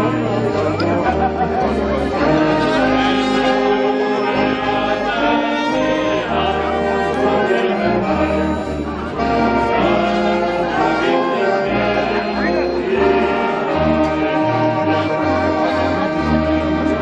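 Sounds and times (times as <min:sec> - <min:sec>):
brass band playing: 0:00.0 - 0:17.0
tuba bass notes: 0:00.0 - 0:17.0.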